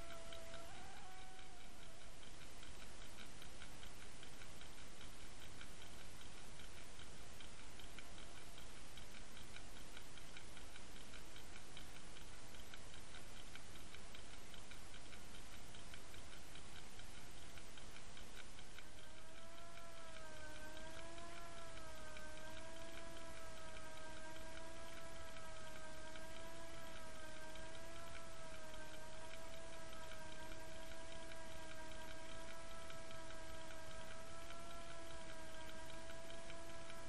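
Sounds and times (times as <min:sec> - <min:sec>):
fast even ticking: 0:00.0 - 0:37.0.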